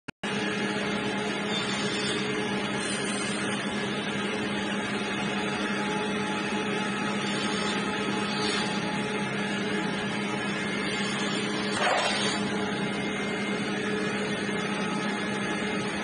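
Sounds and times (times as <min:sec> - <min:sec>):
woodworking machine humming: 0:00.3 - 0:16.0.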